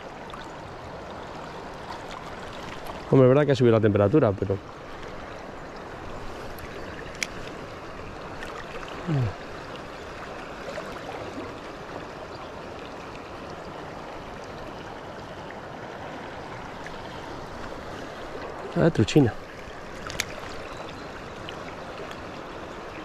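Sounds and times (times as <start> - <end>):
fast river rushing: 0.0 - 23.0.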